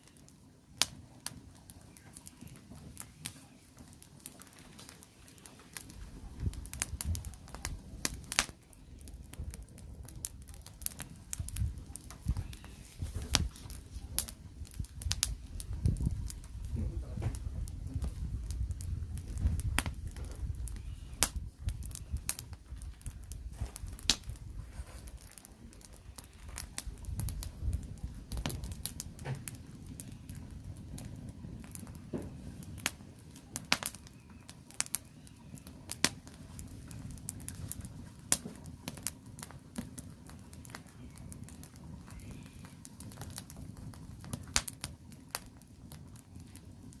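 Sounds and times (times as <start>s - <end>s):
firewood crackling and popping: 0.0s - 47.0s.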